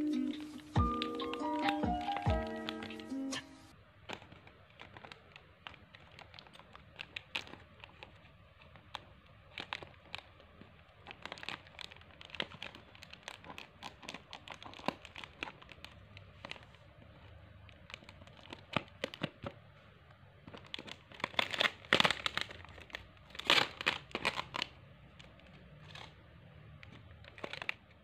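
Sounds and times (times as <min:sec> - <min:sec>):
bubble wrap crinkling: 0:00.0 - 0:28.0.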